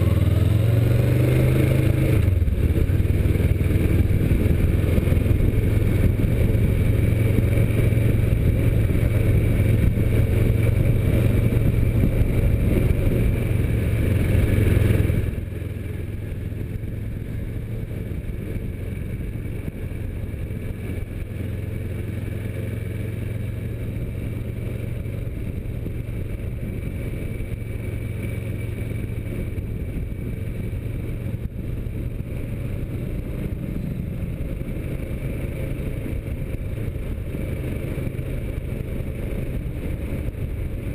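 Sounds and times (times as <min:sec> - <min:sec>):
motorcycle engine drone: 0:00.0 - 0:40.9
road and wind noise: 0:00.0 - 0:40.9.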